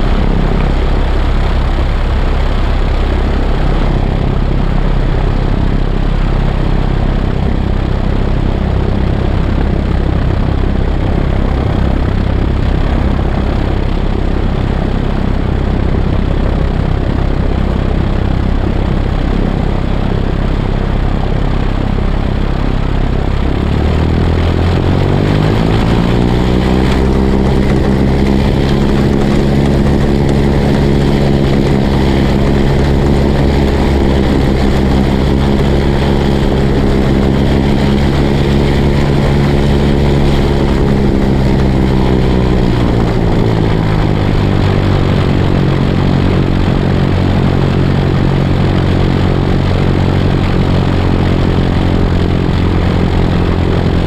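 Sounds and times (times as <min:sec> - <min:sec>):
aircraft piston engine and propeller: 0:00.0 - 0:54.0.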